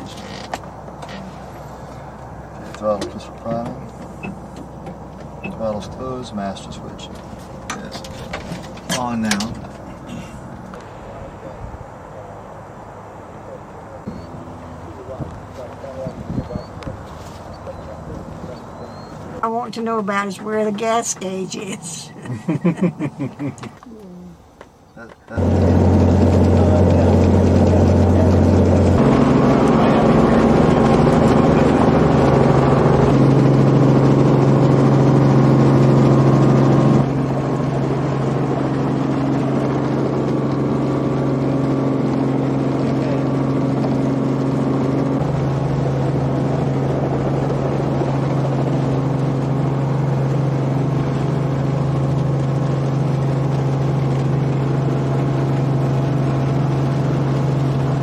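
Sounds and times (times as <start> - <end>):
helicopter engine and rotors: 0.0 - 22.3, 25.0 - 58.0.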